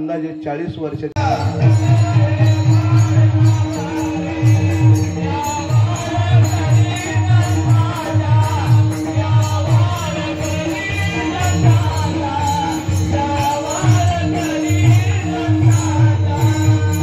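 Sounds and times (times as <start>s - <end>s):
devotional music: 1.1s - 17.0s
hand cymbals jingling: 1.2s - 17.0s
repeating drum beat: 1.2s - 17.0s.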